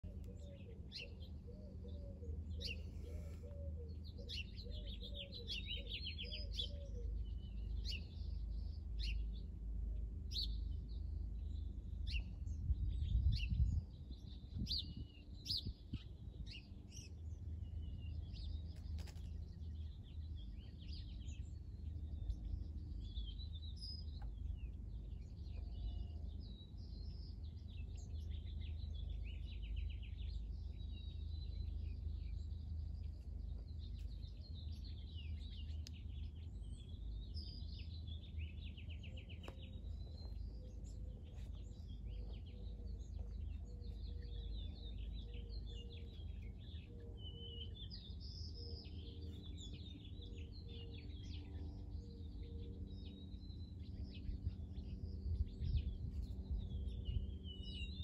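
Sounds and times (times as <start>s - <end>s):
low background rumble: 0.0s - 58.0s
small birds chirping: 0.0s - 58.0s.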